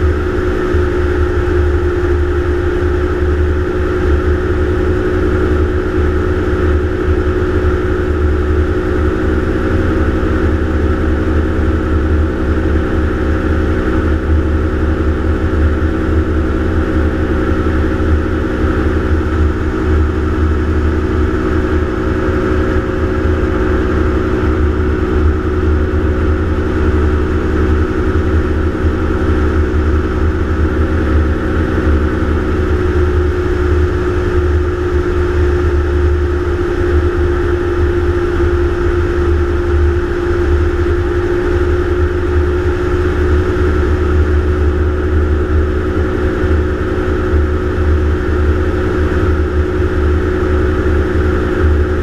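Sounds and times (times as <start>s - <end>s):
aircraft engine and propeller droning: 0.0s - 52.0s.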